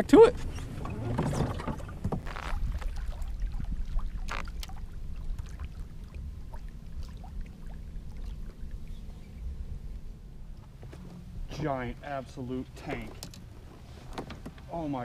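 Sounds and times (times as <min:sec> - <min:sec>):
kayak on water rumble: 0:00.0 - 0:15.0.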